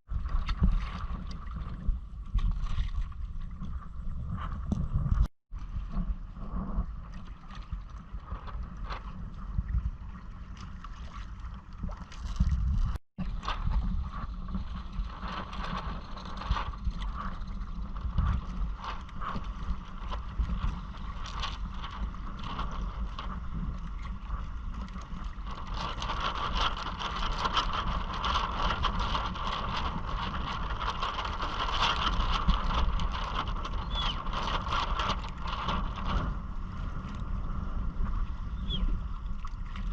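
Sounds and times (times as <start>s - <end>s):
water splashing along kayak hull: 0.1s - 39.9s
wind buffeting microphone: 0.1s - 39.9s.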